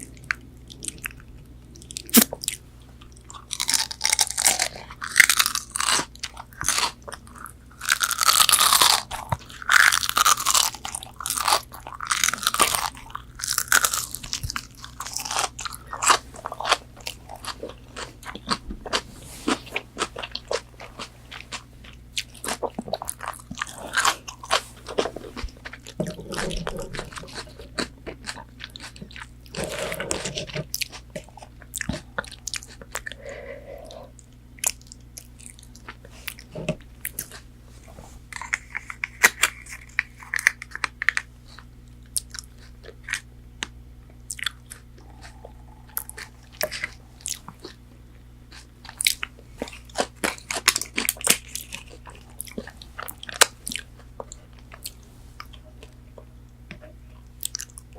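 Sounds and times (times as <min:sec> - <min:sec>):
chewing: 0:00.0 - 0:37.5, 0:38.3 - 0:57.9.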